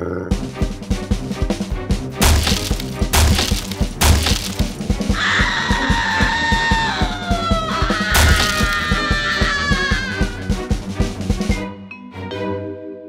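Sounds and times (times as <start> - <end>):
fast chase music: 0.5 - 11.6.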